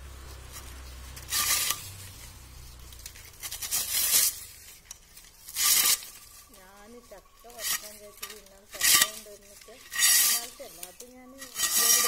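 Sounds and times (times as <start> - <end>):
dry leaves tearing by hand: 0.0 - 12.0.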